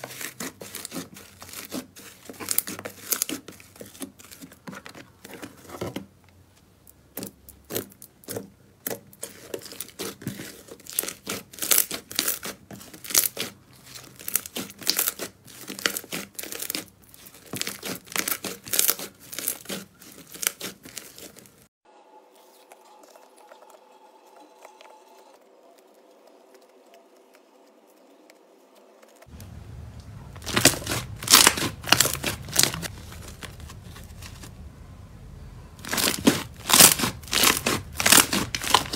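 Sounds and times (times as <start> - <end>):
slime squishing and crackling: 0.0 - 6.0, 7.2 - 21.7, 25.8 - 34.6, 35.7 - 38.9.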